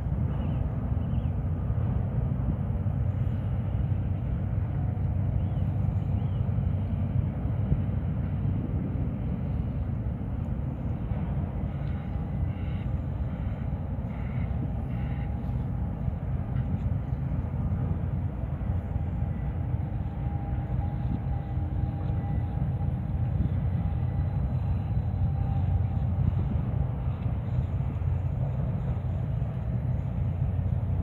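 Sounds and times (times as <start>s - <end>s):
faint machinery hum: 0.0s - 31.0s
low rumble across water: 0.0s - 31.0s.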